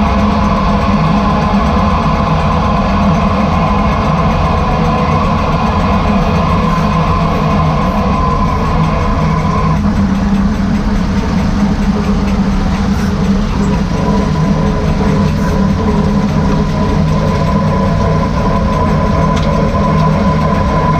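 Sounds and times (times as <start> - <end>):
differential whine: 0.0 - 20.9
road and drivetrain rumble: 0.0 - 20.9.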